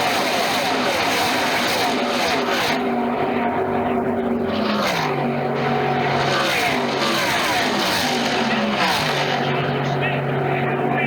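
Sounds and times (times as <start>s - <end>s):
race truck engines passing: 0.0s - 11.0s.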